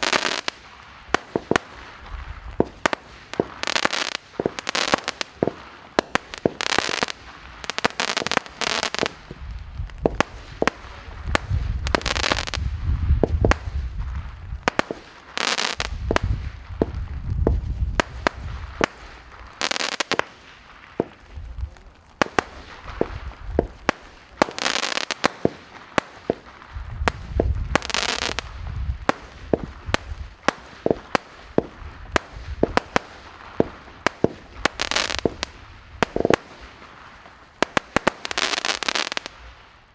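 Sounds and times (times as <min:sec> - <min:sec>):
firework hiss: 0:00.0 - 0:39.9
firework reports: 0:00.0 - 0:39.9.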